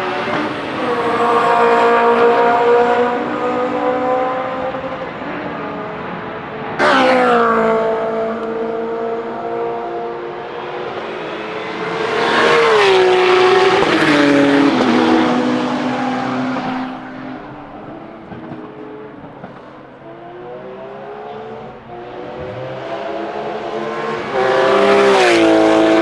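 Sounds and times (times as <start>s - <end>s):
distant car engine revving: 0.0s - 26.0s
race car engine passing: 0.0s - 26.0s.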